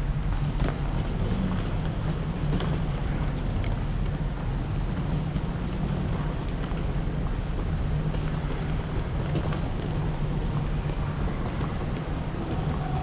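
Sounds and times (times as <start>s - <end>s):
low rumble of terminal hall: 0.0s - 13.0s.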